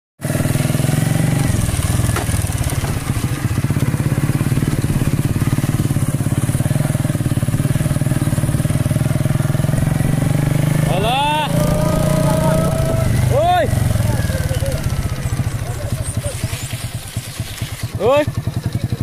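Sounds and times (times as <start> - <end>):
motorcycle engine running: 0.2 - 19.0.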